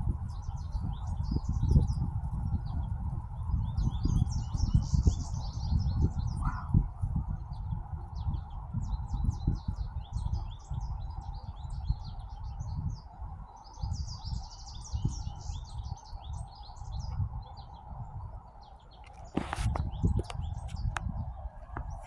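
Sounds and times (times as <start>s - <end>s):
wind rumble on microphone: 0.0s - 22.0s
small birds chirping: 0.2s - 22.0s.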